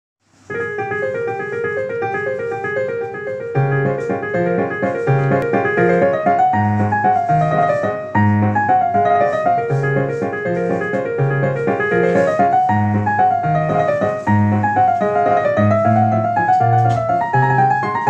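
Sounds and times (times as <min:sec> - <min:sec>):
piano music: 0:00.4 - 0:18.0.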